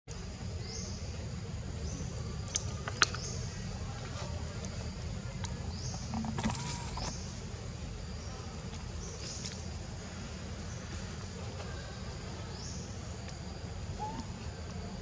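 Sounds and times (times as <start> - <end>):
steady low rumble: 0.1 - 15.0.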